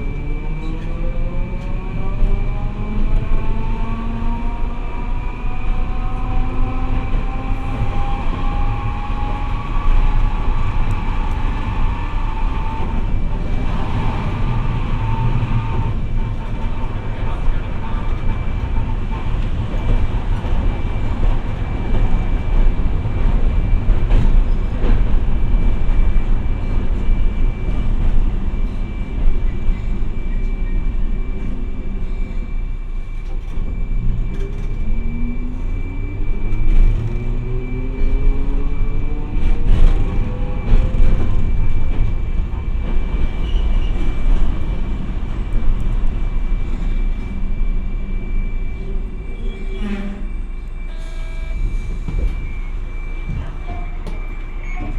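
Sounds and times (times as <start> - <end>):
tram motor whine rising: 0.0 - 54.9
tram rumbling on tracks: 0.0 - 54.9.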